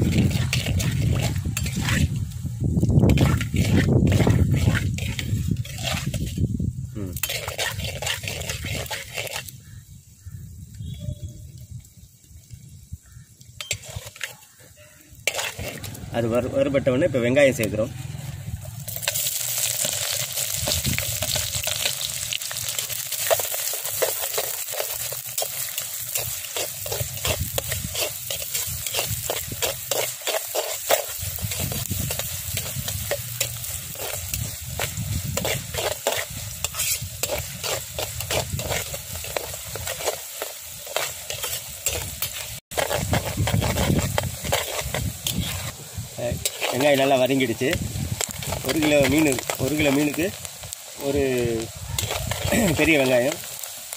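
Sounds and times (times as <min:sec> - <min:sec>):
metal spatula scraping a pot: 0:00.0 - 0:02.2, 0:03.0 - 0:06.5, 0:07.1 - 0:09.5, 0:13.6 - 0:16.0, 0:18.9 - 0:50.3, 0:52.0 - 0:53.5
onions sizzling in oil: 0:00.0 - 0:53.9.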